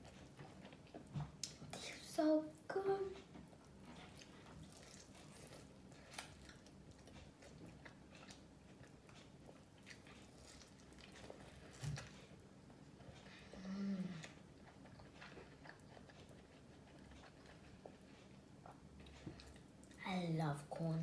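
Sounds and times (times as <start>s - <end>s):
person chewing food: 0.0s - 1.7s, 3.3s - 20.0s.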